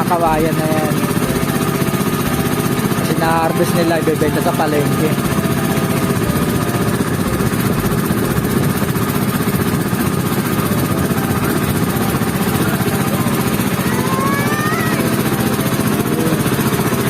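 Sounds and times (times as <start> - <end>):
motorboat engine chugging: 0.0 - 17.0.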